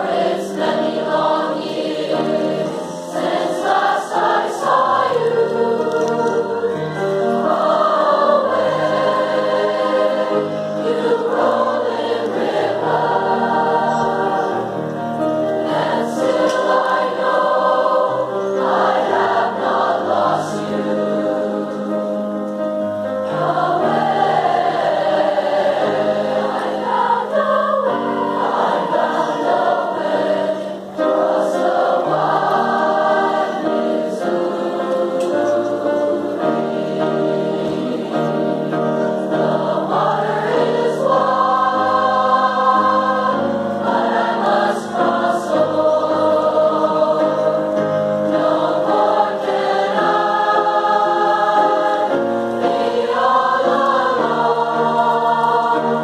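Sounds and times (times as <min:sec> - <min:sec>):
youth choir singing held chords: 0:00.0 - 0:56.0.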